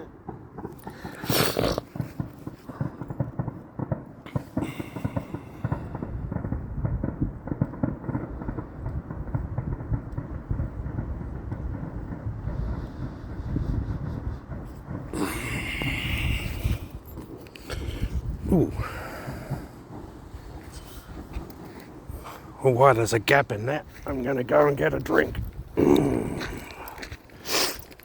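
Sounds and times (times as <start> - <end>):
distant fireworks bangs and crackles: 0.0 - 28.0.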